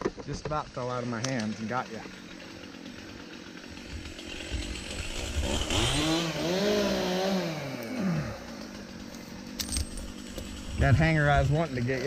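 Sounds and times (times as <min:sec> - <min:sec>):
chainsaw idling and revving: 0:00.5 - 0:12.0.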